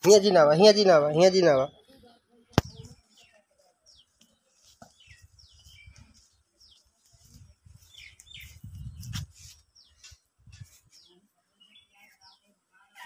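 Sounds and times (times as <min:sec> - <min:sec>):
small birds chirping: 0:00.1 - 0:12.7.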